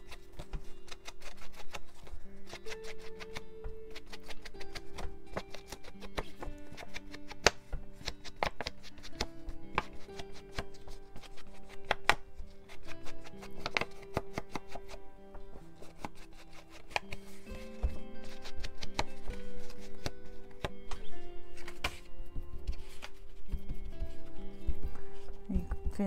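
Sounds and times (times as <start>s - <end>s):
crafting materials clicking and tapping: 0.0s - 26.0s
soft background music: 0.0s - 26.0s.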